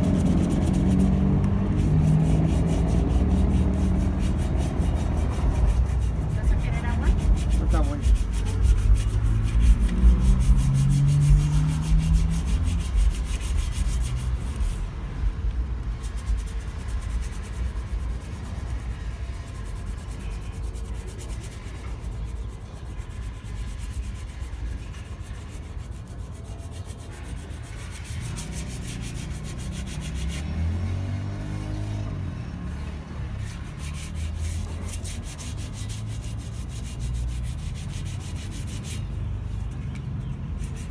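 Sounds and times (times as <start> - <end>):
sandpaper scratching on metal: 0.0 - 15.0, 15.9 - 31.6, 32.8 - 40.9.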